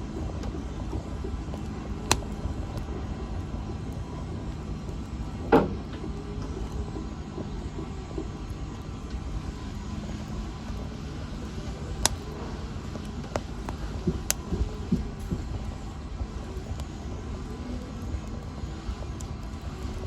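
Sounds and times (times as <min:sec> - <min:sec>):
low rumble of flames: 0:00.0 - 0:20.0
fire crackling pops: 0:00.1 - 0:20.0.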